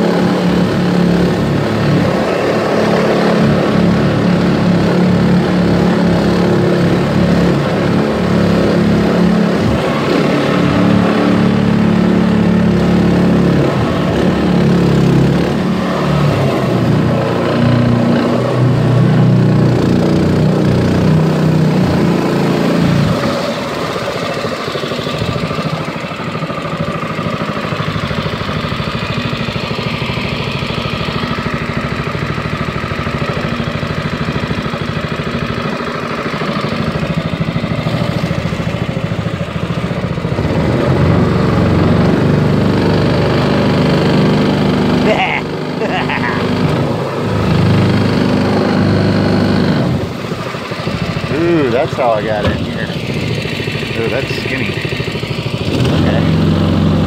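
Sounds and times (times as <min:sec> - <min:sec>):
small outboard motor running: 0:00.0 - 0:57.0
water washing along hull: 0:00.0 - 0:57.0.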